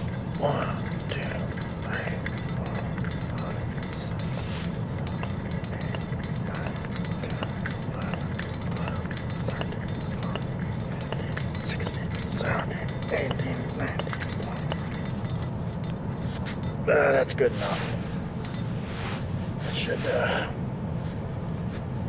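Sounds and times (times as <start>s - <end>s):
hand pump strokes: 0.0s - 19.2s
steady low rumble: 0.0s - 22.0s.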